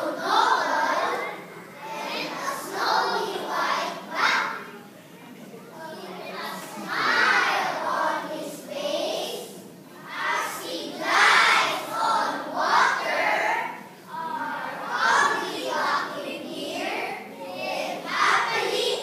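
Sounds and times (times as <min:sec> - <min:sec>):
children reciting in unison: 0:00.0 - 0:04.8, 0:05.8 - 0:19.0.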